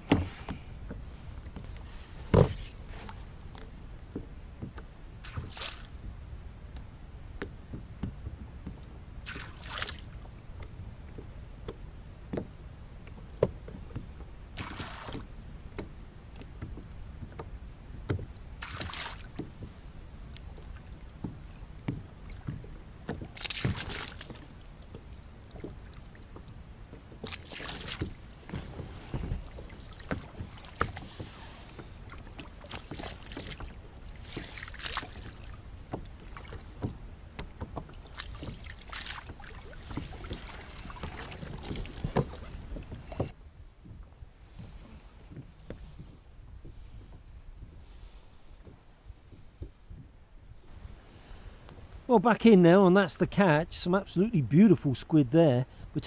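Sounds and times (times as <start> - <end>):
water lapping against kayak: 0.0 - 56.0.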